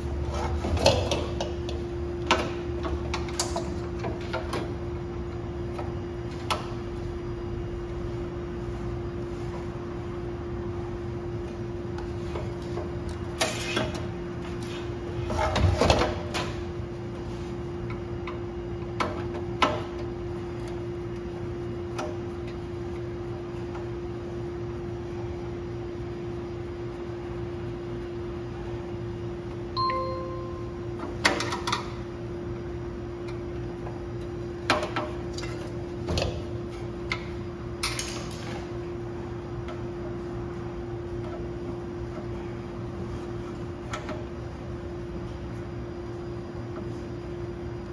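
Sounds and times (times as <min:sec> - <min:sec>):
steady mechanical hum: 0:00.0 - 0:47.9.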